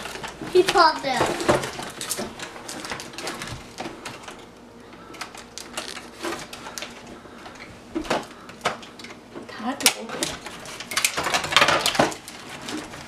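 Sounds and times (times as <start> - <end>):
rustling cardboard and plastic: 0.0 - 9.0, 9.7 - 13.0.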